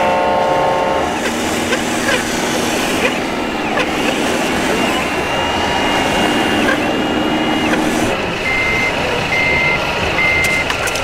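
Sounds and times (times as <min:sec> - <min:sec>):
reversing beeper: 0:01.0 - 0:10.8
background hubbub: 0:01.1 - 0:11.0.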